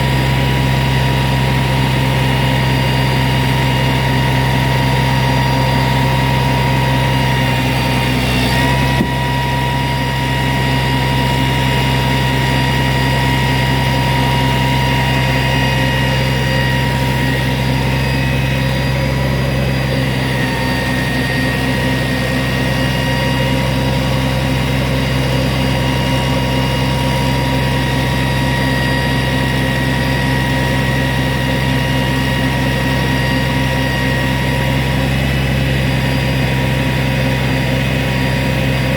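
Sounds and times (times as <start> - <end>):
engine idling: 0.0 - 38.9
thin steady whine: 0.0 - 38.9.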